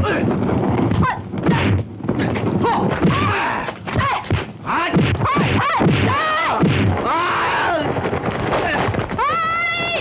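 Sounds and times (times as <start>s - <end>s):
thuds of blows: 0.0s - 10.0s.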